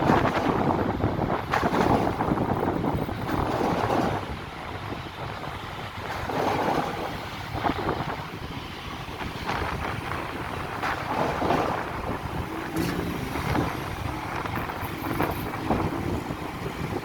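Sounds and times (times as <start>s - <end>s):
vehicle noise: 0.0s - 17.0s
wind buffeting microphone: 0.0s - 17.0s.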